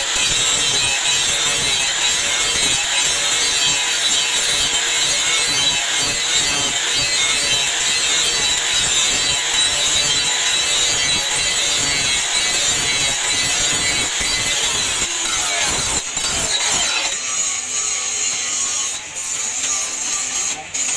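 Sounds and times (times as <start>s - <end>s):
grinder rasping on metal: 0.0s - 20.9s.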